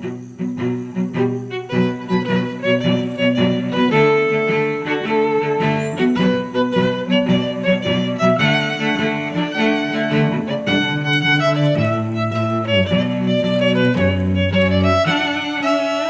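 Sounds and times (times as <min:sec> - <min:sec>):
bowed strings music: 0:00.0 - 0:16.0.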